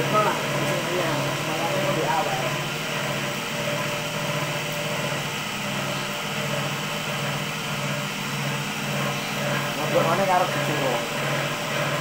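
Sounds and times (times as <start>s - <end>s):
cotton candy machine humming: 0.0s - 12.0s.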